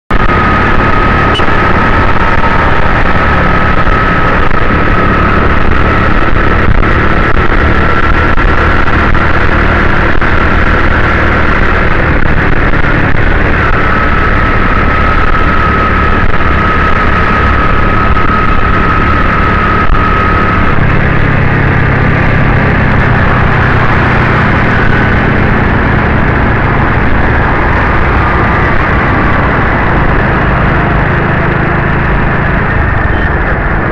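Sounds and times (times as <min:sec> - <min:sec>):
vehicle engine and road noise: 0:00.0 - 0:33.9
thin steady whine: 0:00.1 - 0:33.9.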